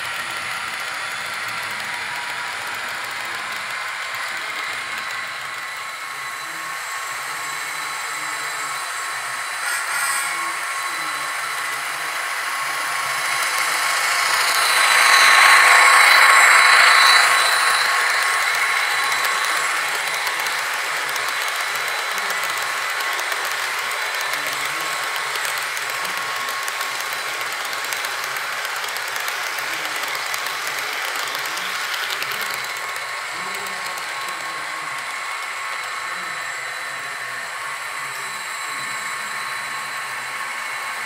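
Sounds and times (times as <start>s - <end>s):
model train wheels rattling on rails: 0.0s - 41.0s.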